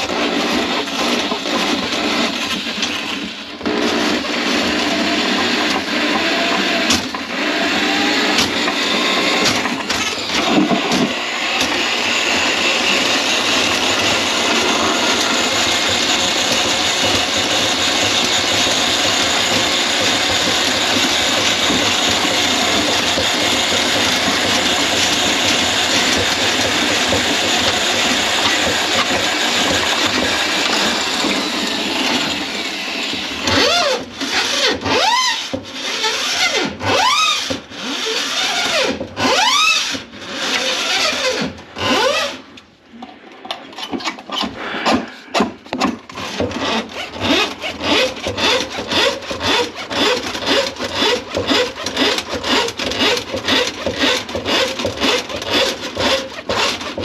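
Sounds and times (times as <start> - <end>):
knocks and rattles: 0.0 - 39.3, 43.0 - 57.0
drain-cleaning machine running: 0.0 - 42.5, 43.2 - 57.0.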